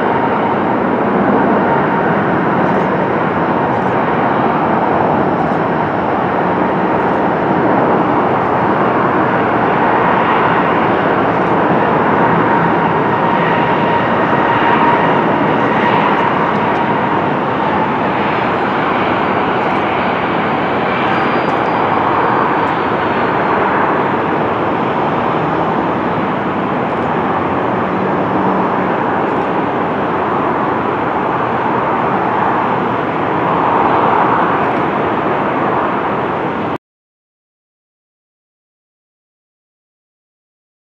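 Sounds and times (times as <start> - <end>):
faint jet whine: 0.0 - 36.8
loud jet engine noise: 0.0 - 36.8.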